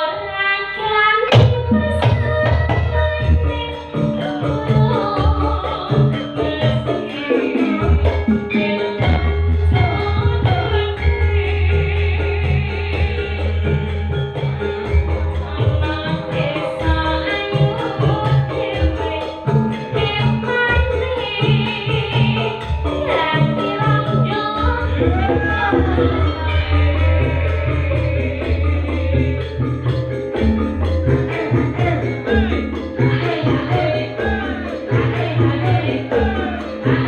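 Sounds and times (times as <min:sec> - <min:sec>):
person singing: 0:00.0 - 0:37.0
live band music: 0:01.3 - 0:37.0.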